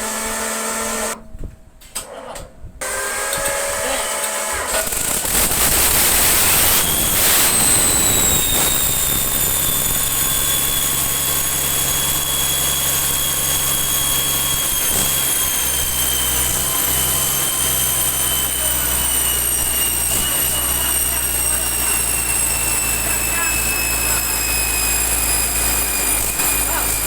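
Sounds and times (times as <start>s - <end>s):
engine humming: 0.0s - 1.2s, 4.7s - 27.0s
engine whine: 0.0s - 1.2s, 2.8s - 27.0s.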